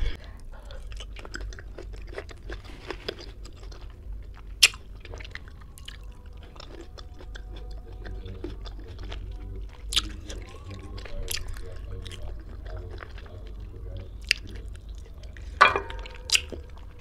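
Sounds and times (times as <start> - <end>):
chewing and wet mouth sounds: 0.0 - 17.0.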